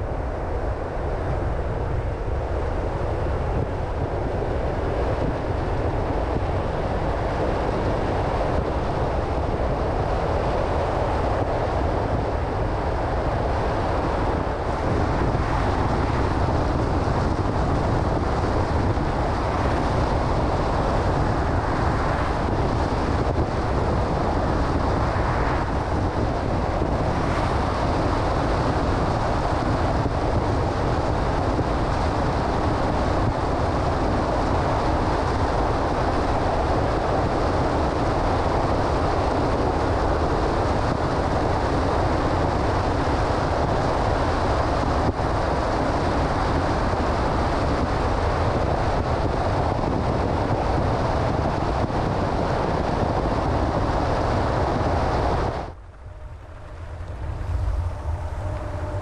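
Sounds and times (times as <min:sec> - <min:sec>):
car tyre and wind noise: 0:00.0 - 0:59.0.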